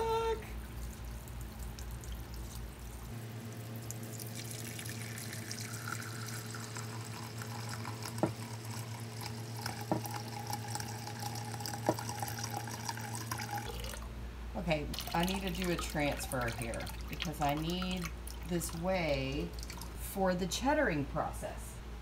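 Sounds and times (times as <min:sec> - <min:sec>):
liquid pouring and splashing: 0:00.1 - 0:14.1, 0:14.9 - 0:20.0.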